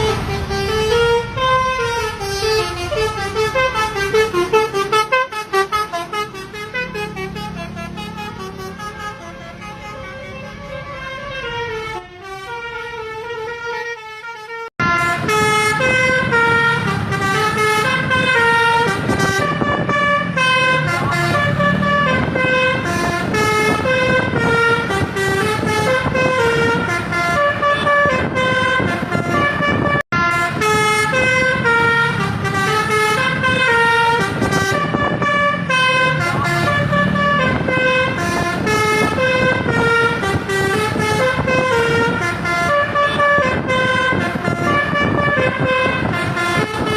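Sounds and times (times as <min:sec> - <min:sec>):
multi-tone air horn tune: 0:00.0 - 0:46.9.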